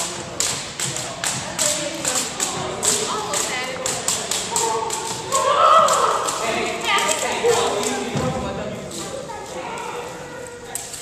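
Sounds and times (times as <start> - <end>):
jump ropes slapping wooden floor: 0.0 - 9.0
voices chattering: 0.0 - 11.0.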